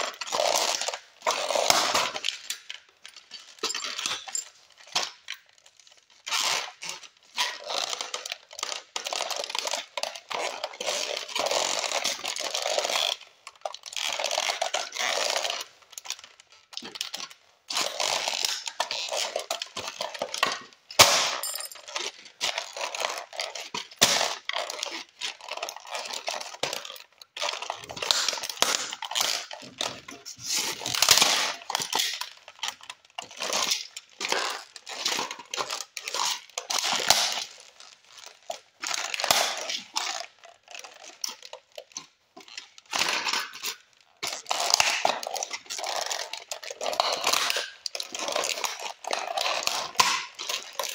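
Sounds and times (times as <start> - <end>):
toy cars crushed underfoot: 0.0 - 50.9.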